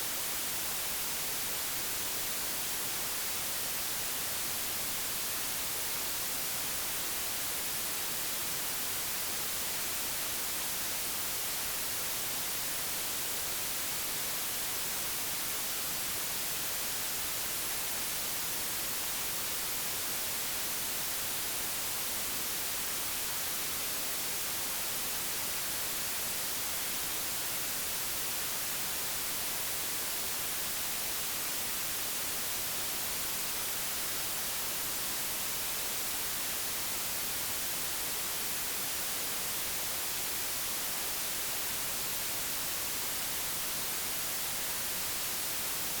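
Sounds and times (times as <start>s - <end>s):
white noise hiss: 0.0s - 46.0s.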